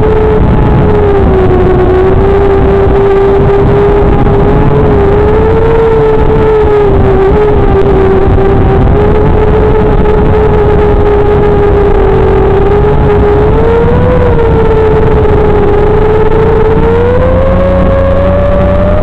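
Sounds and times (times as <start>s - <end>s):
drone motors whining: 0.0s - 19.0s
rough rushing noise: 0.0s - 19.0s.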